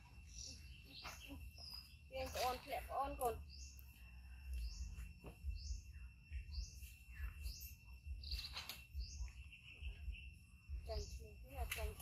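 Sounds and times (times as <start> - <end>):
bird chirping: 0.0 - 12.0
high insect drone: 0.0 - 12.0.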